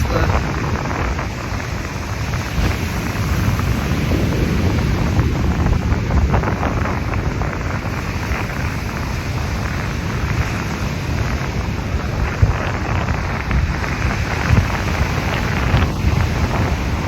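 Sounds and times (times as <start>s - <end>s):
ocean surf washing: 0.0s - 17.0s
wind buffeting microphone: 0.0s - 17.0s.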